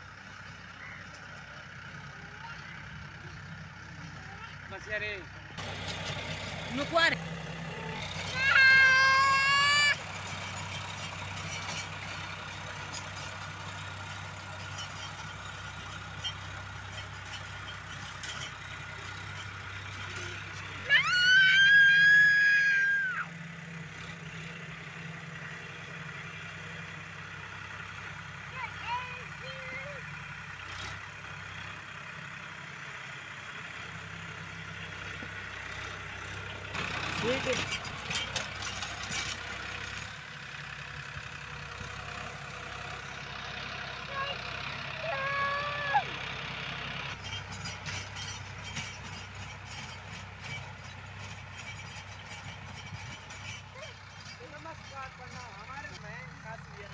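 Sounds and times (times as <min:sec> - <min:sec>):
engine humming: 0:00.0 - 0:56.9.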